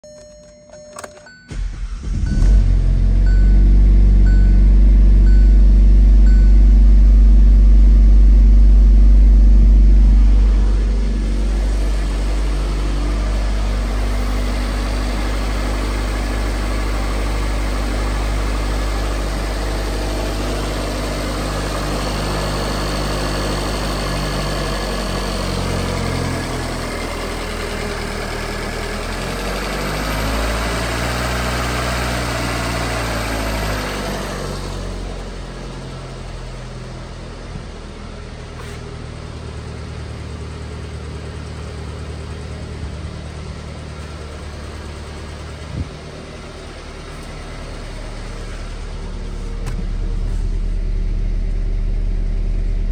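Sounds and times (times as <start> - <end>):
car engine idling: 1.5 - 52.9.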